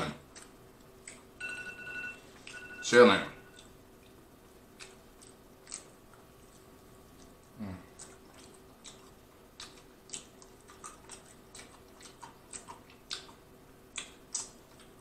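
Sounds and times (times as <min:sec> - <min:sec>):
wet chewing with lip smacks: 0:00.2 - 0:01.4, 0:03.6 - 0:15.0.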